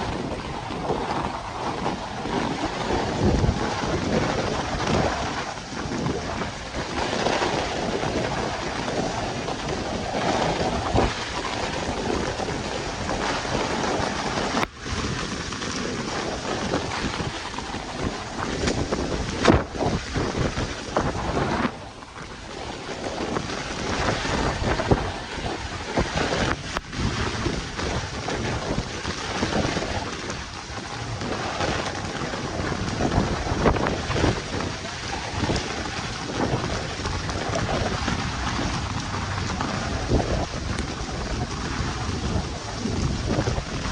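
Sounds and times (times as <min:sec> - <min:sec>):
heavy rain falling: 0:00.0 - 0:43.9
wind buffeting microphone: 0:00.0 - 0:43.9.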